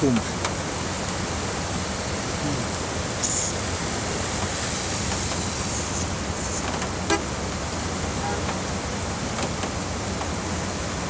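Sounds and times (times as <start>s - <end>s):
floodwater rushing across road: 0.0s - 11.0s
heavy rain: 0.0s - 11.0s.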